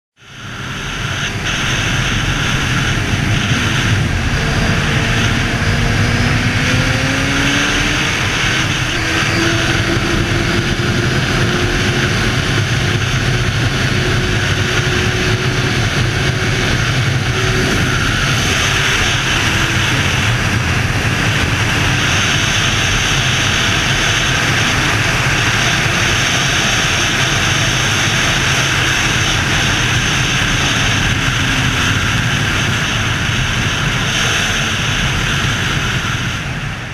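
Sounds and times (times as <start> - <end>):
motorcycle engine running: 0.2 - 36.9
wind rushing over camera: 0.2 - 36.9.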